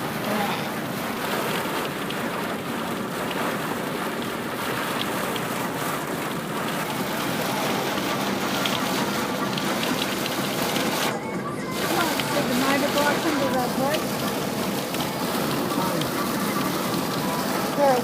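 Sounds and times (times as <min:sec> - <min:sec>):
drops or hail ticking: 0:00.0 - 0:18.0
rain and wind on car: 0:00.0 - 0:18.0
road noise: 0:00.0 - 0:18.0.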